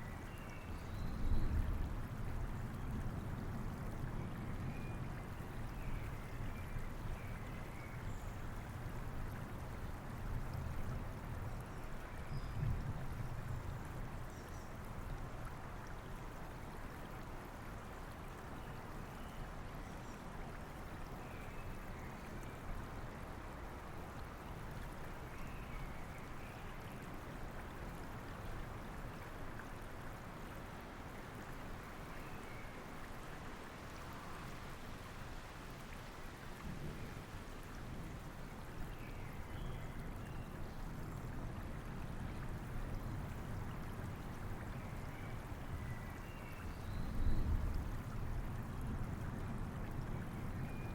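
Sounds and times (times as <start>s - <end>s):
rain: 0.0s - 50.9s
river flowing: 0.0s - 50.9s.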